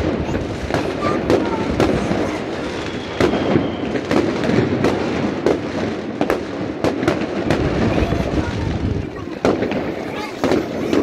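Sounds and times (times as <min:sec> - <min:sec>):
fireworks exploding: 0:00.0 - 0:11.0
sharp fireworks bangs: 0:00.0 - 0:11.0.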